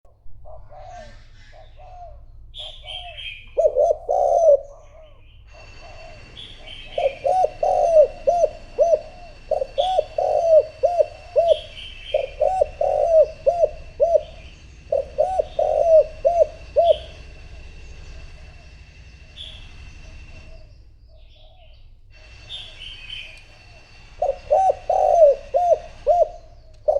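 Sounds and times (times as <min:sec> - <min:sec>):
dove cooing: 0:00.4 - 0:26.9
small birds chirping: 0:00.4 - 0:26.9.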